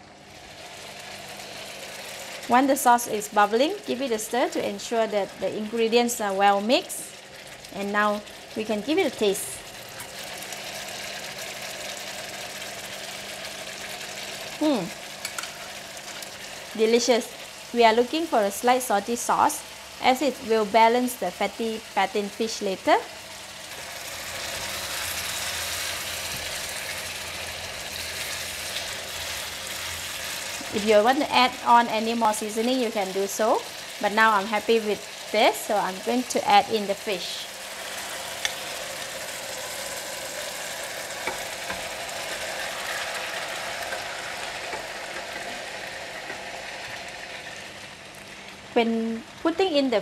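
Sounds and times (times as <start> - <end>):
sauce bubbling and sizzling: 0.0 - 49.3.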